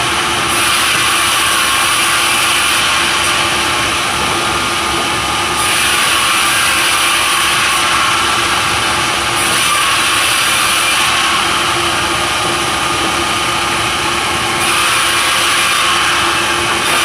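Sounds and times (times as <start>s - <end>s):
sawmill saw cutting timber: 0.0s - 17.0s.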